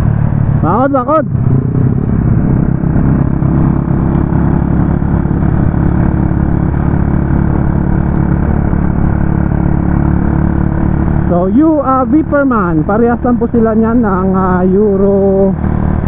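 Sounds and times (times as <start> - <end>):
motorcycle engine running loud: 0.0 - 16.0.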